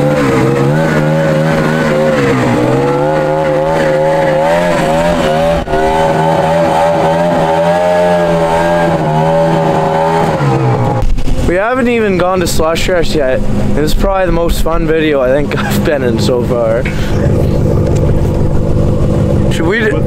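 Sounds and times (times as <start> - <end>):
snowmobile engine running under load: 0.0 - 20.0.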